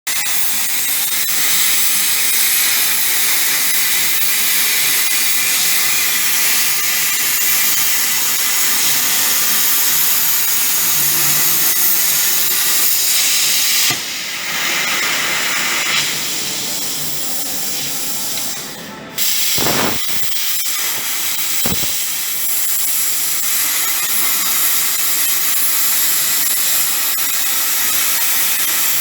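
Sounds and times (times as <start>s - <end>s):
plasma torch hissing: 0.1s - 29.0s.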